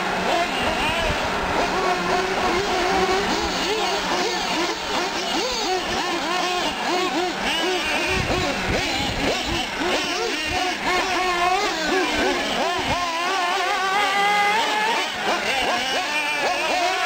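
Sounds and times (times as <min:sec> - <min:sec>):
small nitro engines revving: 0:00.0 - 0:17.0.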